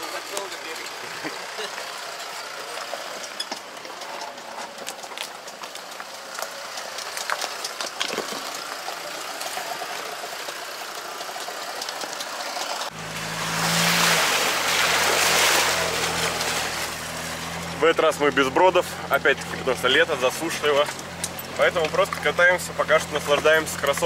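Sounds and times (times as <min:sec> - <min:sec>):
engine running: 0:00.0 - 0:24.0
tyres crackling over stones: 0:00.0 - 0:24.0.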